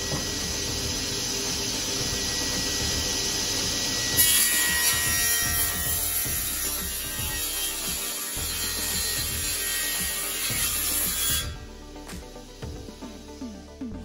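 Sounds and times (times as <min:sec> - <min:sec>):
table saw: 0:00.0 - 0:13.5
background music: 0:00.0 - 0:14.0.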